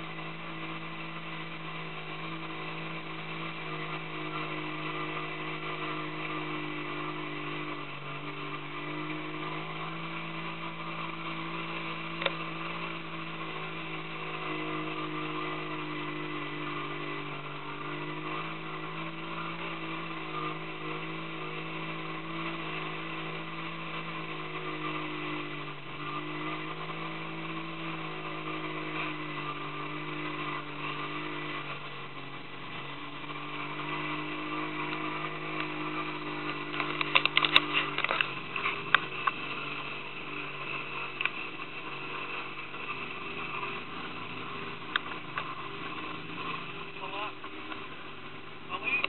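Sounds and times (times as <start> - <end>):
small boat motor running: 0.0 - 49.0.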